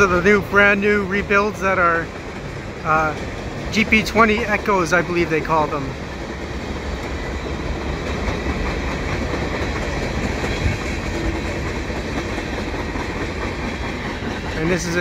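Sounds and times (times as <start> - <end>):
diesel locomotives passing: 0.0 - 15.0
tank cars rumbling over rails: 0.0 - 15.0.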